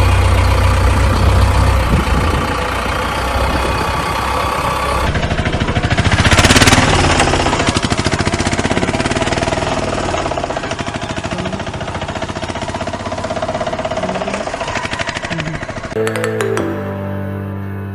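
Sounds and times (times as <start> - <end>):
machine rattling and humming: 0.0 - 16.0.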